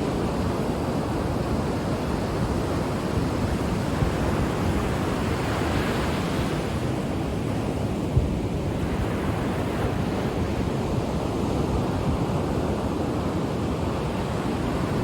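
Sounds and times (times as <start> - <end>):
ocean waves washing on shore: 0.0 - 15.0.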